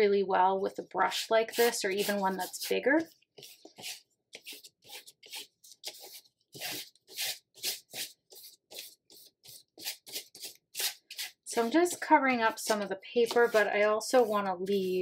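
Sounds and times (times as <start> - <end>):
paintbrush scrubbing on paper: 1.1 - 15.0.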